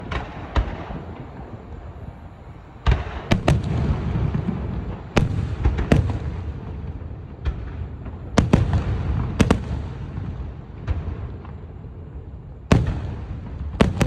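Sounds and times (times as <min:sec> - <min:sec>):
fireworks bangs and cracks: 0:00.0 - 0:01.9, 0:02.8 - 0:14.0
fireworks rumbling: 0:00.0 - 0:14.0.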